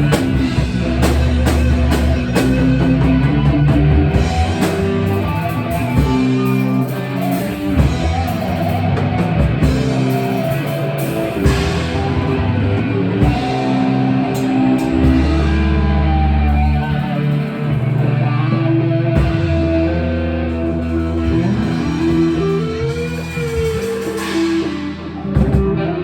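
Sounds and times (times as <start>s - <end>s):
low bass notes: 0.0s - 26.0s
rock music with guitar: 0.0s - 26.0s.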